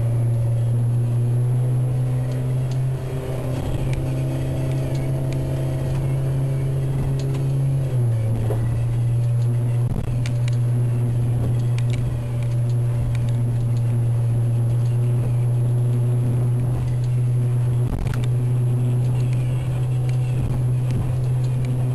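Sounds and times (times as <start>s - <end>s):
motorboat engine running: 0.0s - 21.9s.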